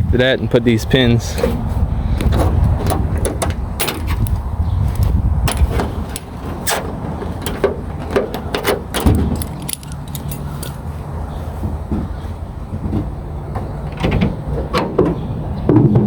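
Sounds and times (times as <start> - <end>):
steady low rumble: 0.0 - 15.7
metal clicks and clunks: 2.2 - 10.9, 11.6 - 16.0.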